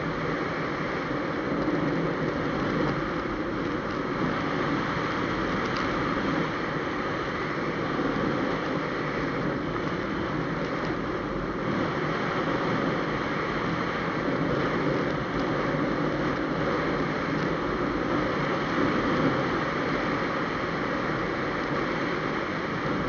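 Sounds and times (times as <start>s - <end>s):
motorcycle road noise: 0.0s - 23.0s
wind rush: 0.0s - 23.0s.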